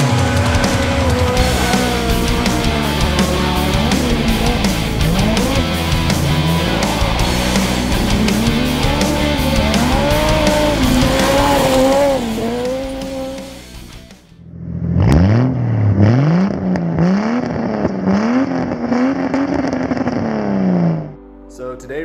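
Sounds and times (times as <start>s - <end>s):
rally car engine running hard: 0.0s - 21.0s
car engine revving: 0.0s - 21.2s.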